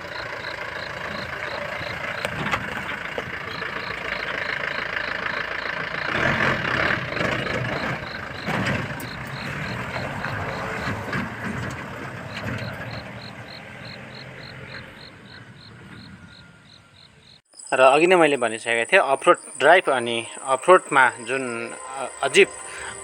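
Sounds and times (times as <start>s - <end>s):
insect chirping: 0.0s - 23.0s
vehicle engine running: 0.0s - 23.0s.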